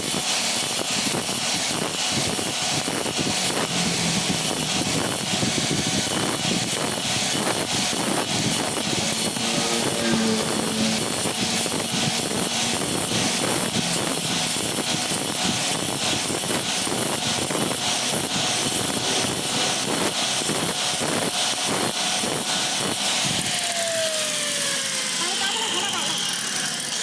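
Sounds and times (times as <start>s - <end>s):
stone flour mill running: 0.0s - 27.0s.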